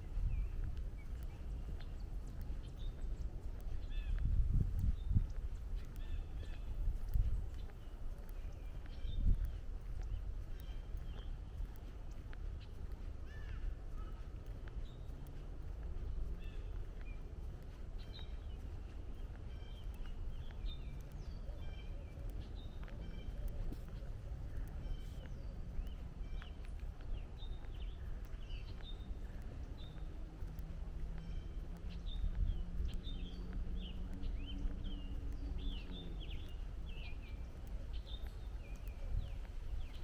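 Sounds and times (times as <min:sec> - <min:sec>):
distant traffic rumble: 0:00.0 - 0:40.0
footsteps on trail: 0:00.0 - 0:40.0
songbirds chirping: 0:00.0 - 0:40.0.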